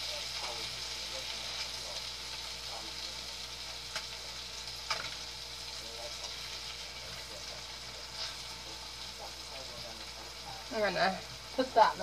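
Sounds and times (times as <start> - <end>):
fish fillets sizzling in pan: 0.0 - 12.0.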